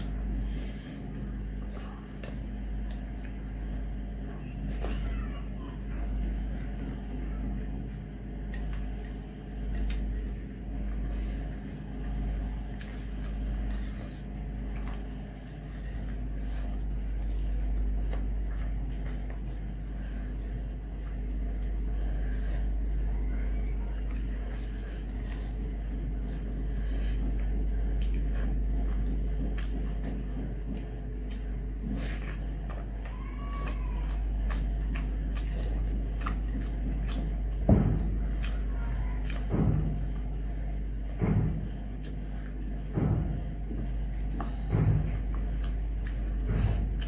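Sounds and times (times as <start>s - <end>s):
fingers mixing rice on a plate: 0.0s - 47.0s.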